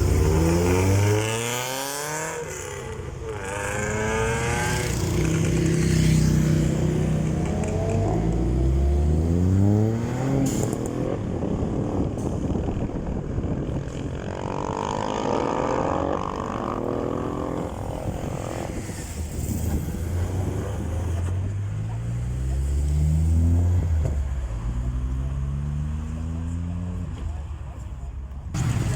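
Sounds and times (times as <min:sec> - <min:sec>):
cars accelerating hard: 0:00.0 - 0:27.2.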